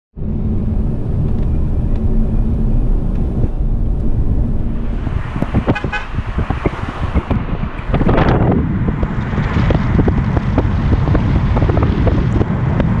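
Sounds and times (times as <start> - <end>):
car road noise rumble: 0.1 - 13.0.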